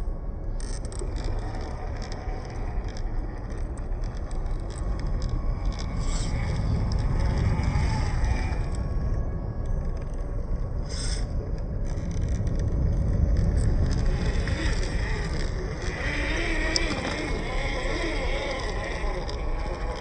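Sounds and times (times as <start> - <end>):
heavy low rumble: 0.0 - 20.0
electric motor and gears whining: 0.6 - 10.0, 10.8 - 20.0.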